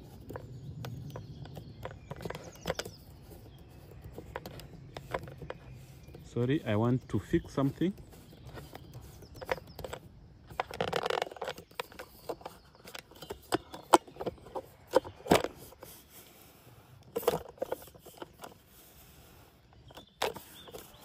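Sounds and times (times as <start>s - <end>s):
handling clicks and taps: 0.0s - 16.0s, 17.0s - 18.7s, 19.6s - 21.0s
scraping rustle: 1.1s - 21.0s.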